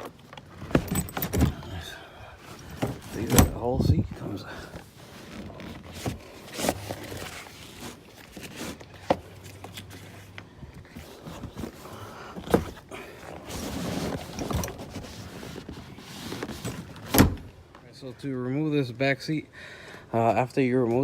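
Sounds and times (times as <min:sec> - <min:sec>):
knocks and rustling: 0:00.0 - 0:01.8, 0:02.5 - 0:17.6.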